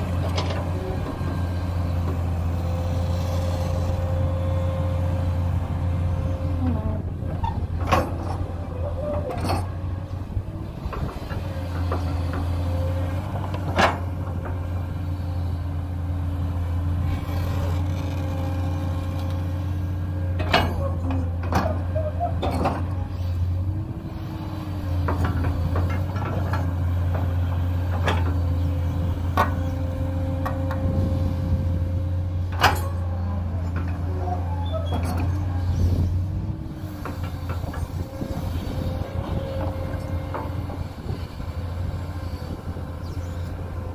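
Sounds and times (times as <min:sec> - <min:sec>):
excavator diesel engine: 0:00.0 - 0:43.9.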